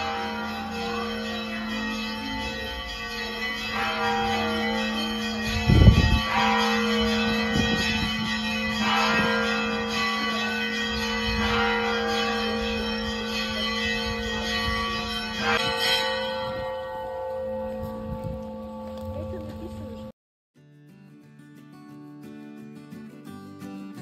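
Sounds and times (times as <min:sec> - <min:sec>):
church bells ringing: 0:00.0 - 0:20.1.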